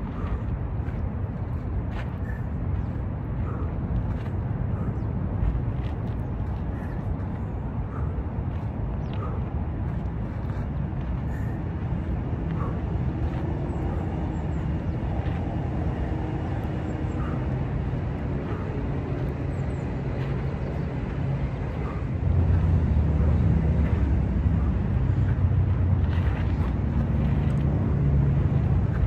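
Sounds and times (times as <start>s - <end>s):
city traffic rumble: 0.0s - 29.0s.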